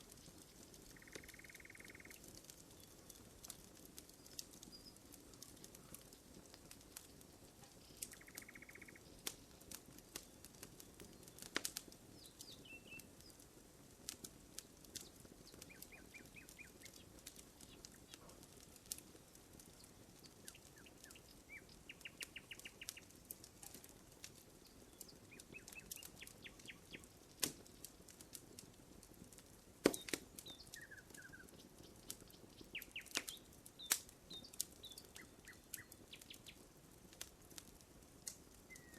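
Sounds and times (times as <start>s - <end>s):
campfire wood crackling and popping: 0.0s - 38.9s.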